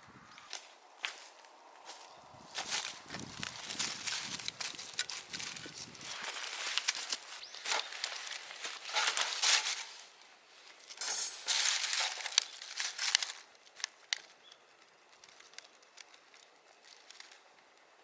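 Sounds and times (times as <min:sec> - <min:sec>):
crinkling and rustling: 0:00.3 - 0:18.0.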